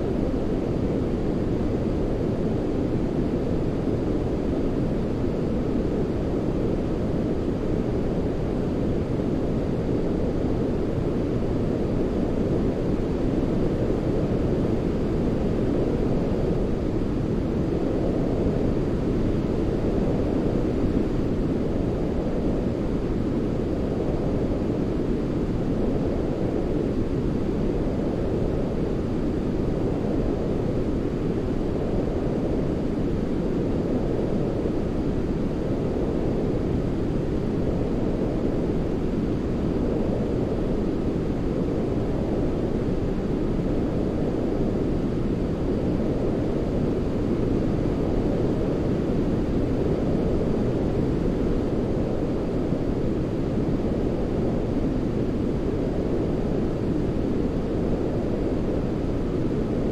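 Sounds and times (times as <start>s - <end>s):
deep white noise hiss: 0.0s - 59.9s.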